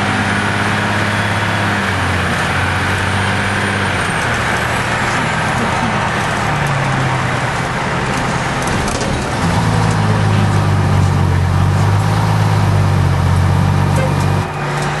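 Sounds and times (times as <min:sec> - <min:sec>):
diesel engine pulling: 0:00.0 - 0:15.0.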